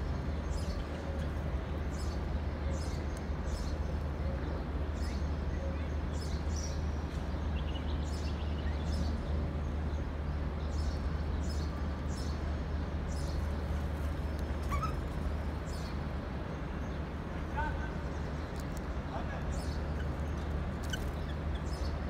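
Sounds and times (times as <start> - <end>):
small birds chirping: 0.3 - 22.0.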